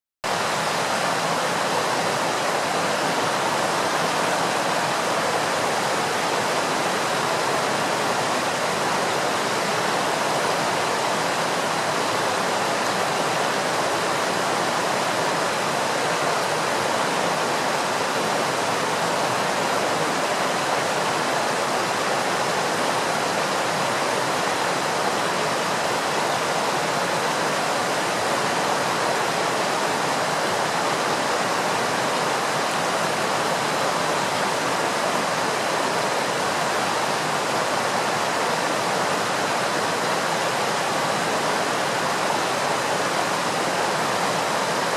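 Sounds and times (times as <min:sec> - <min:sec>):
flowing water rushing: 0:00.2 - 0:44.9.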